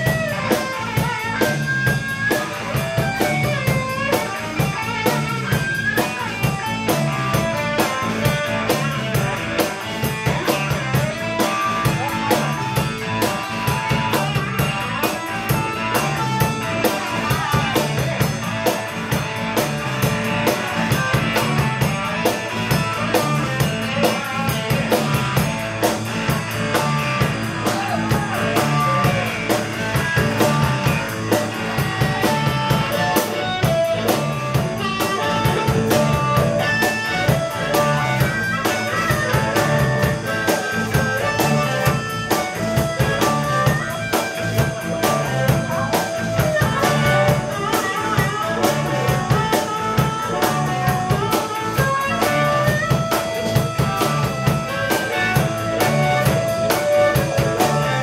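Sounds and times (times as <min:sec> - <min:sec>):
bass riff: 0:00.0 - 0:58.0
electric guitar lead with bent notes: 0:00.0 - 0:58.0
steady drum beat: 0:00.0 - 0:58.0.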